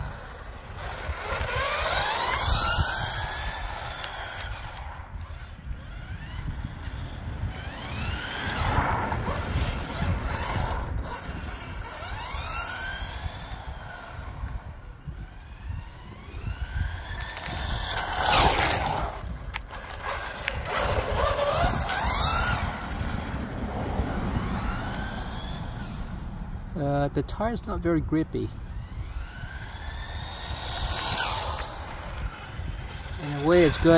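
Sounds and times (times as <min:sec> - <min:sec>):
rc car motor whining: 0:00.0 - 0:26.4, 0:28.4 - 0:33.9.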